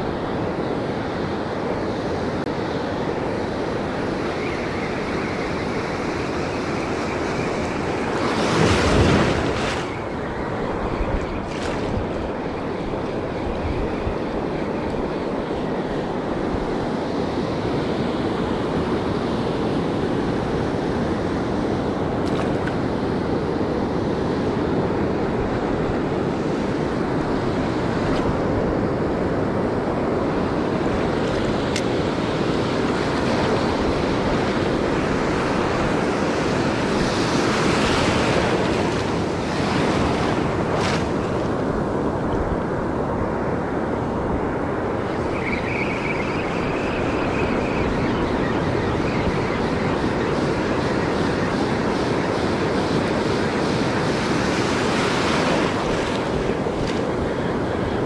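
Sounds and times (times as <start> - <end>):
ocean surf breaking: 5.5 - 58.0.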